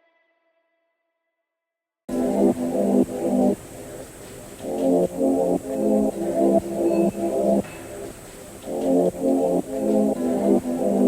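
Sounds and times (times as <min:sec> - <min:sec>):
low held music notes: 0:02.1 - 0:11.0.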